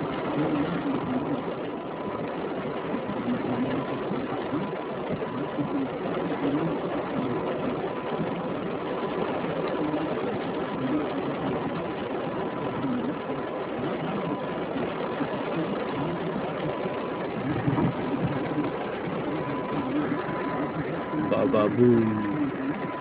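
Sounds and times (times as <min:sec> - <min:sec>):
faint steady tone: 0:00.0 - 0:23.0
wind rumbling around car: 0:00.0 - 0:23.0.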